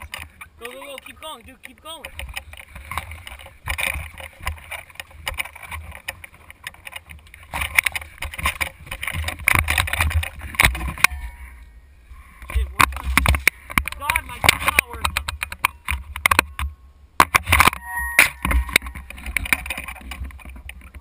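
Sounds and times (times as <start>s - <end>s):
camera knocking and rumbling: 0.0s - 11.2s, 12.4s - 21.0s
sharp clicks and knocks: 0.0s - 11.7s, 12.4s - 21.0s.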